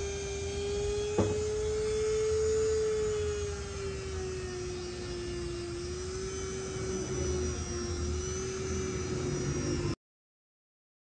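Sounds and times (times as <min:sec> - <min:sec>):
rotary tool motor whine: 0:00.0 - 0:10.0.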